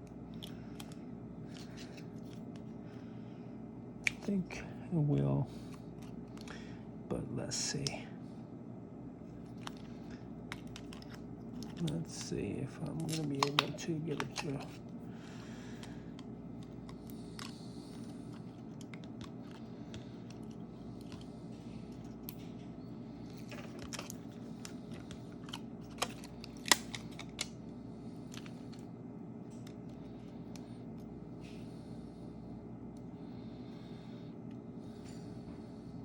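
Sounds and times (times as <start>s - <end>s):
background hum: 0.0s - 36.0s.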